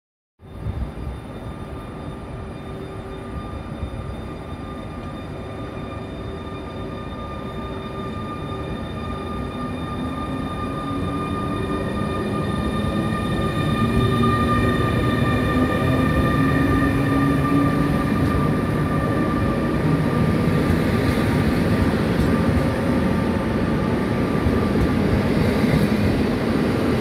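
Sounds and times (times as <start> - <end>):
electric locomotive rumbling and whining: 0.4 - 27.0.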